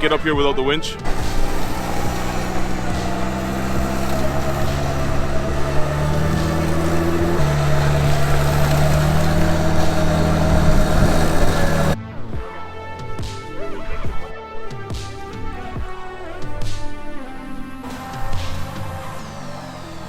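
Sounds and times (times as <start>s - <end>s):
engine running under load: 0.0s - 12.0s, 15.4s - 20.0s.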